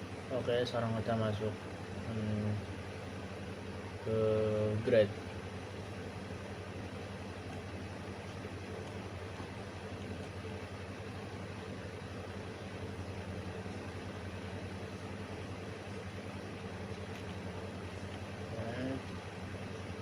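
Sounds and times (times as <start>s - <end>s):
constant hiss: 0.0s - 20.0s.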